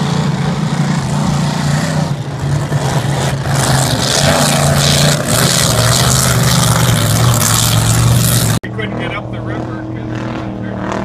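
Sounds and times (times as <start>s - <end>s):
racing powerboat engines: 0.0s - 11.0s.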